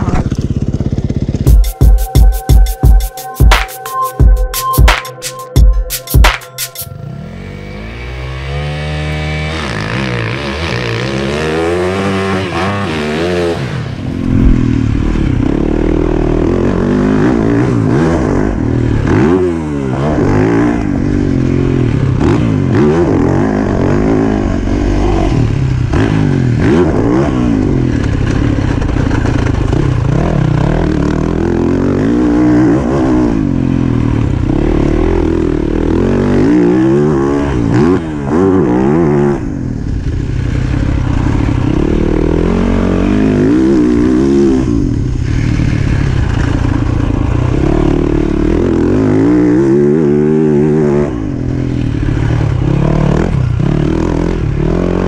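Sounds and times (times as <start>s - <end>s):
dirt bike engine revving: 7.0s - 55.0s.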